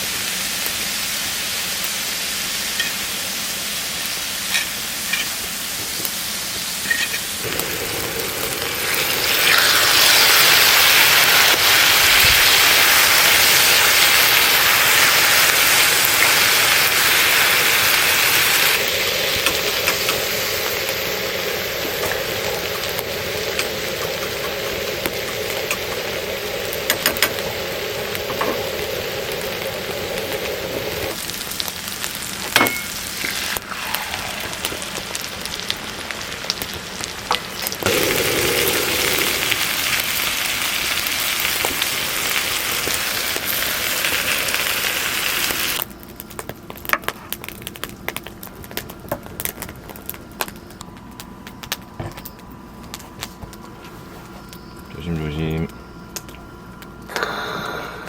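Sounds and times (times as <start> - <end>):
food sizzling in a hot pan: 0.0 - 47.6.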